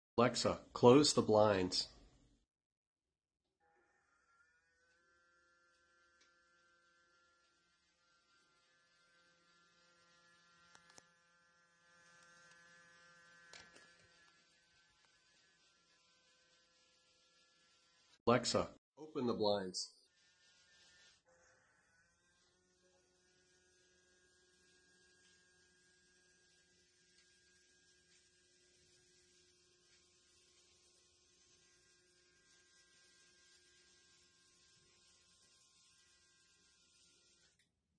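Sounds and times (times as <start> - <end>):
small motor humming: 3.7 - 18.2, 20.0 - 37.7.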